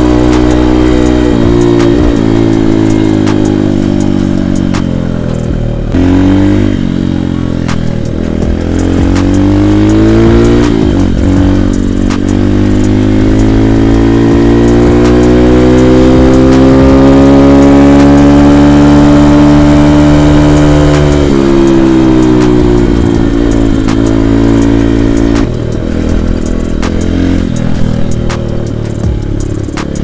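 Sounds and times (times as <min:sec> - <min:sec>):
motorbike engine accelerating: 0:00.0 - 0:30.0.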